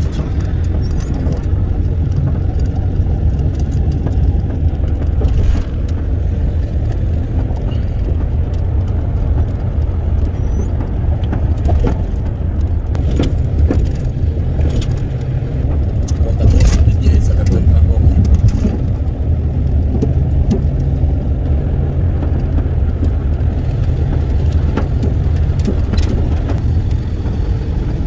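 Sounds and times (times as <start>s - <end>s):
small clicks and rattles: 0.0s - 28.0s
truck engine and tyres rumbling: 0.0s - 28.0s.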